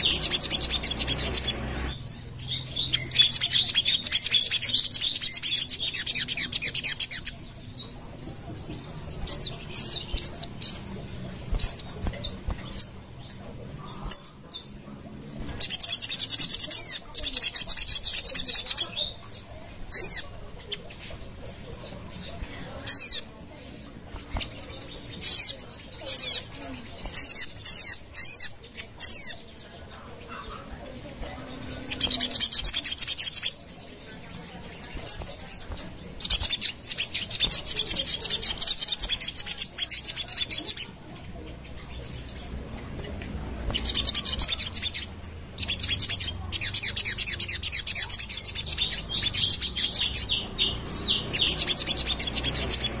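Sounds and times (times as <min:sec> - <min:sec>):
sunbird chirping and trilling: 0:00.0 - 0:53.0.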